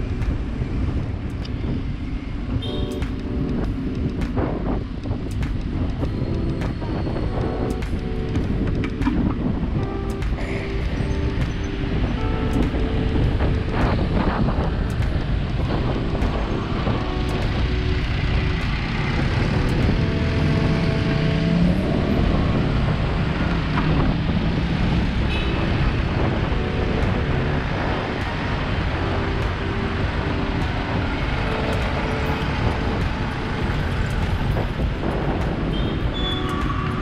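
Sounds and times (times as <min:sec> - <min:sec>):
motorcycle engines: 0:00.0 - 0:37.0
road roar: 0:00.0 - 0:37.0.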